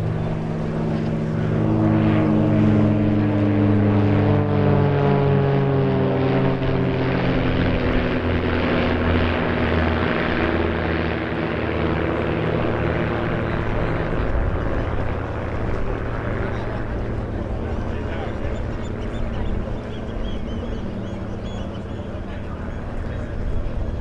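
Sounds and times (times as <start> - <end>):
propeller planes droning overhead: 0.0 - 24.0.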